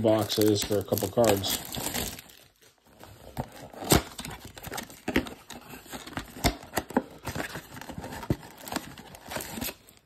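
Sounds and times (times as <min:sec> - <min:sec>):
cardboard box being torn open: 0:00.1 - 0:02.4, 0:03.0 - 0:09.9.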